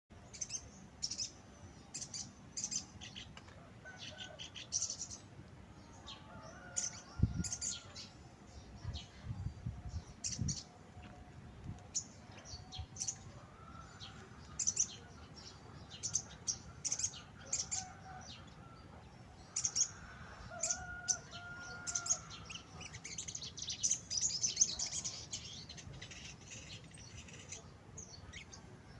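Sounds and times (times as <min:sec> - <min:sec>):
sunbird chirping and twittering: 0:00.2 - 0:28.9.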